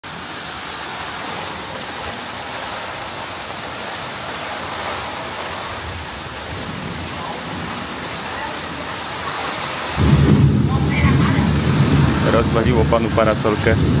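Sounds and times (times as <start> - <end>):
heavy rain on pool and tiles: 0.0 - 14.0.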